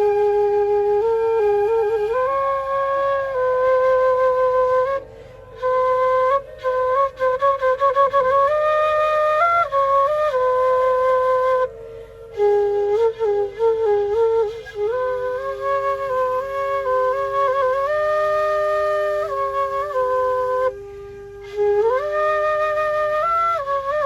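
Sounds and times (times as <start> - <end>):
bamboo flute melody: 0.0 - 24.0.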